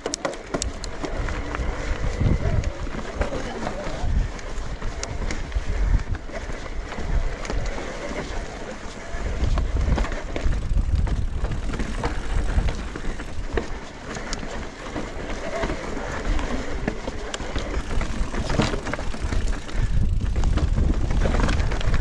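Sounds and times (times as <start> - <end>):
bike knocking and rattling: 0.0 - 22.0
bike tyres rumbling over rock: 0.0 - 22.0
wind buffeting microphone: 0.5 - 22.0.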